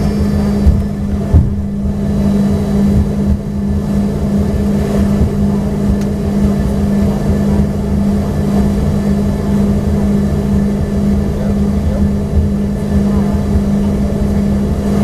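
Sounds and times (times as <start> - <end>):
airplane cabin engine hum: 0.0 - 15.0.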